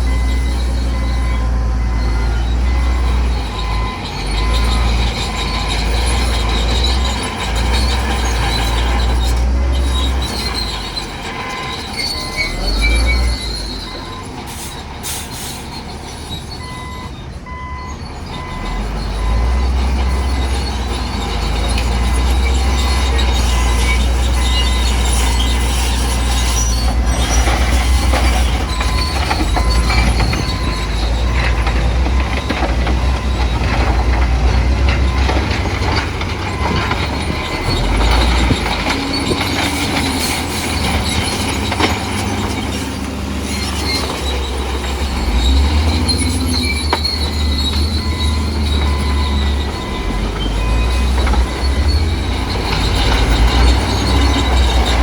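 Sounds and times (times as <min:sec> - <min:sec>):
bulldozer diesel engine rumble: 0:00.0 - 0:55.0
crawler tracks squealing and clanking: 0:00.0 - 0:55.0.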